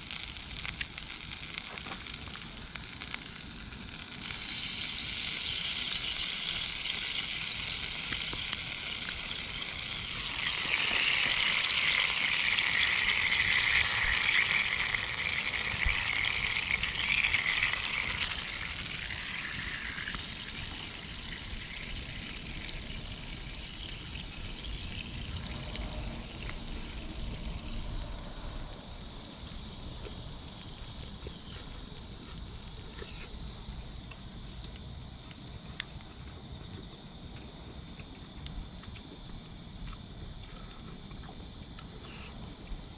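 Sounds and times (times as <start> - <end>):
meat sizzling over a campfire: 0.0 - 42.9.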